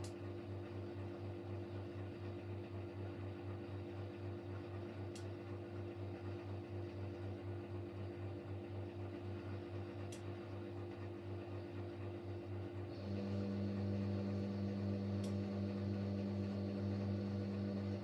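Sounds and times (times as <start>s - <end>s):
washing machine spinning: 0.0s - 18.0s.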